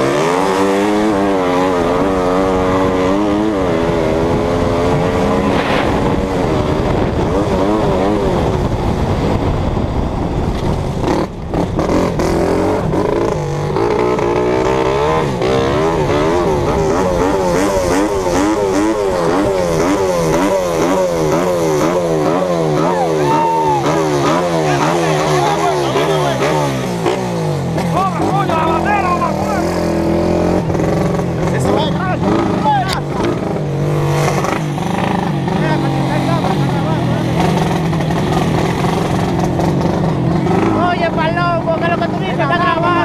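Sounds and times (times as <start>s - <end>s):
racing motorcycle engine: 0.0s - 43.0s.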